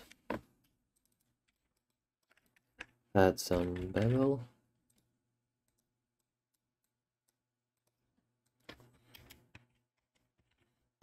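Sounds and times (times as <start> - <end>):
keyboard and mouse clicks: 0.0 - 10.9.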